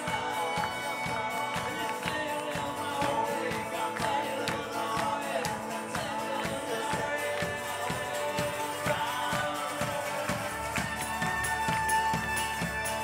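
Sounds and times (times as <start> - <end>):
drums beating: 0.0 - 13.0
man singing: 0.0 - 13.0
strummed acoustic guitar: 0.0 - 13.0.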